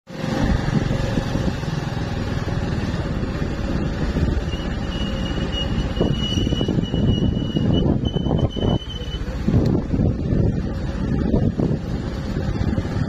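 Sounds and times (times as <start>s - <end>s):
motorbike engine rumbling: 0.1s - 13.0s.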